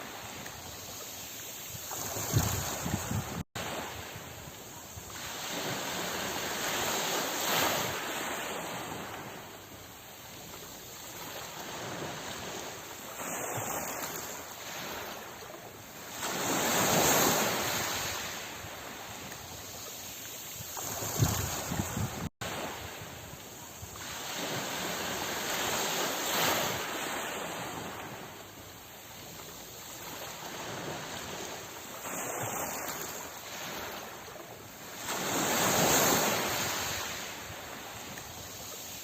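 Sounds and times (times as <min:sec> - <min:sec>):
sea waves washing onto shore: 0:00.0 - 0:39.0.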